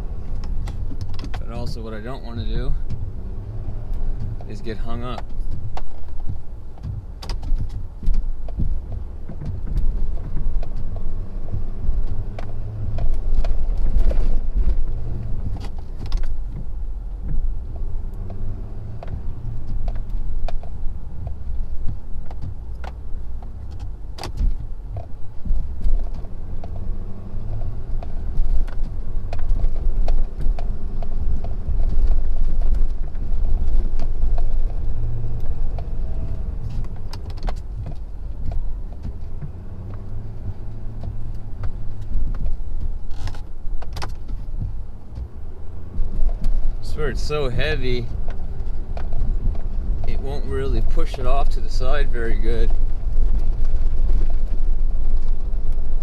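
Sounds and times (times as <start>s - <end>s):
diesel engine under load: 0.0s - 56.0s
knocks and clicks: 0.2s - 56.0s.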